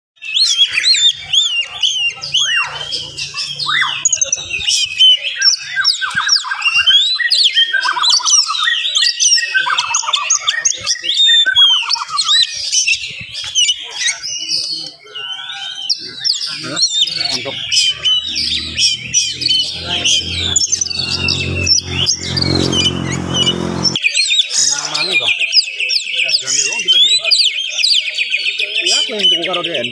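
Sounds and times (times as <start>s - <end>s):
magpie-robin singing: 0.2s - 29.9s.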